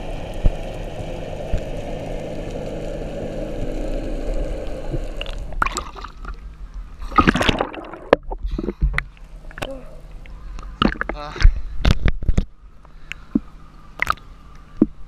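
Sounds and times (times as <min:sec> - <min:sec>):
water splashing and gurgling: 0:00.0 - 0:12.4, 0:13.2 - 0:15.0
faint steady hum: 0:00.0 - 0:15.0.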